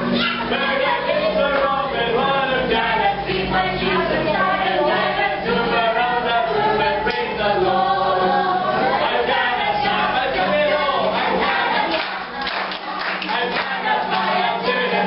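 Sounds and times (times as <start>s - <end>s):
adults singing: 0.0s - 15.0s
children singing: 0.0s - 15.0s
strummed acoustic guitar: 0.0s - 15.0s.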